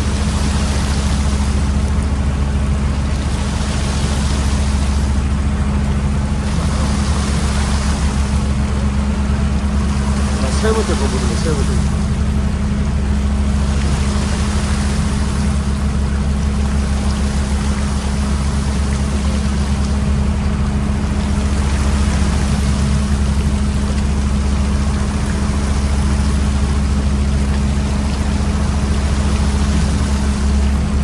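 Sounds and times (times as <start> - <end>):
boat engine and machinery drone: 0.0 - 31.0.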